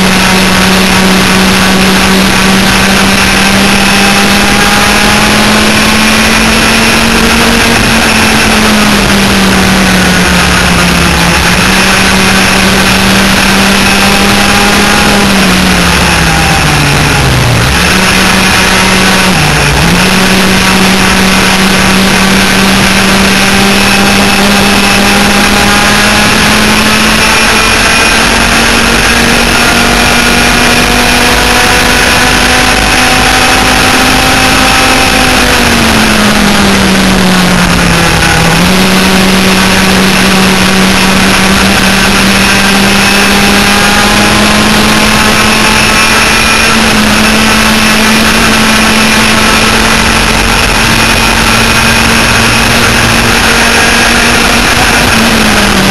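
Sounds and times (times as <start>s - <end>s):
two-stroke kart engines at full throttle: 0.0s - 55.9s.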